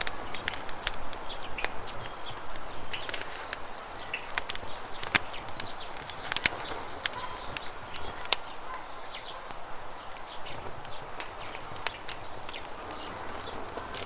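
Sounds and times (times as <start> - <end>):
campfire crackling and popping: 0.0 - 14.0
high bird chirps: 0.1 - 13.9.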